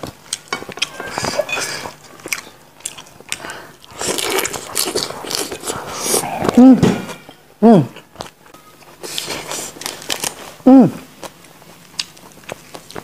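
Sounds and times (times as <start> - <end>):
person chewing food: 0.0 - 7.4, 8.0 - 13.0.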